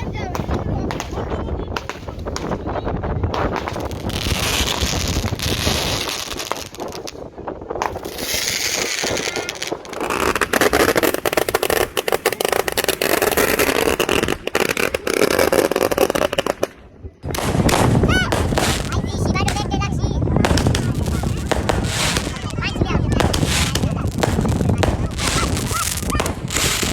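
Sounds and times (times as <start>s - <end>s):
fireworks crackling pops: 0.0s - 26.9s
fireworks hissing bursts: 3.4s - 26.9s.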